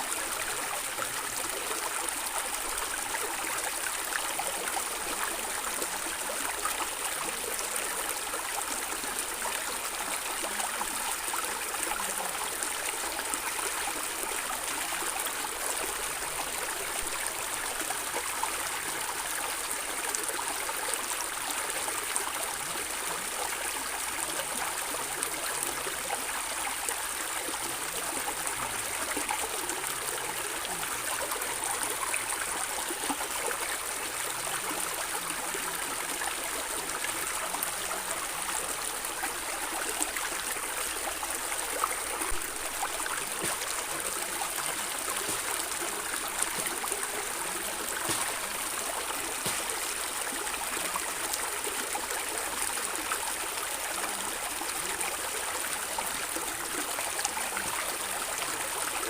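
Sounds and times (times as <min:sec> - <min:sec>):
stream gurgling: 0:00.0 - 0:59.0.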